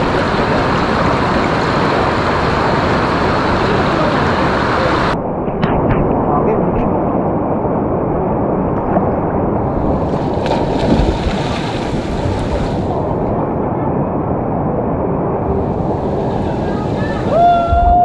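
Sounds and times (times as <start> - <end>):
wind roaring over microphone: 0.0 - 18.0.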